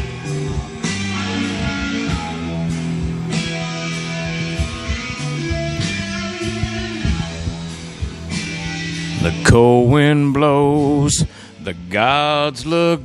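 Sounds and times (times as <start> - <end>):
guitar chords: 0.0 - 13.0.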